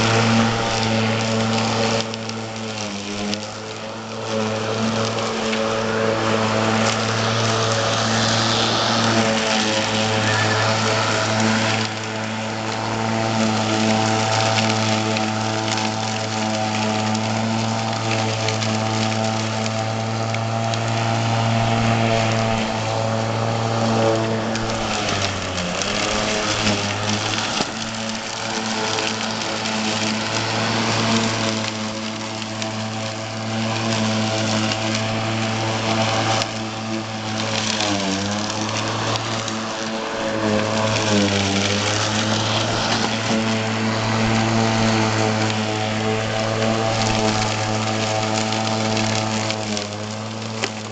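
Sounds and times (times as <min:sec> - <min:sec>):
electric lawnmower motor humming: 0:00.0 - 0:50.9.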